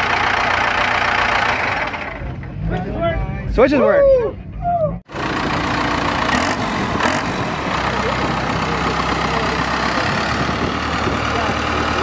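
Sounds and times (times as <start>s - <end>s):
diesel engine idling: 0.0s - 3.2s, 5.0s - 12.0s.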